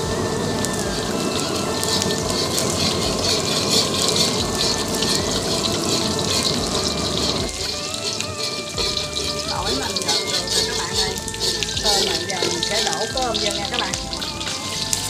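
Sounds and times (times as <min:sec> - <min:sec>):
garlic sizzling in hot oil: 0:00.0 - 0:15.0
metal ladle stirring in wok: 0:00.7 - 0:15.0.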